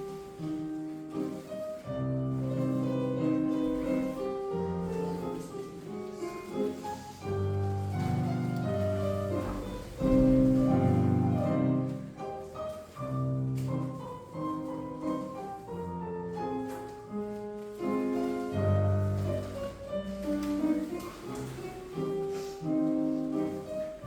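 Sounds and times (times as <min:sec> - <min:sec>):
classical piano music: 0:00.0 - 0:24.0.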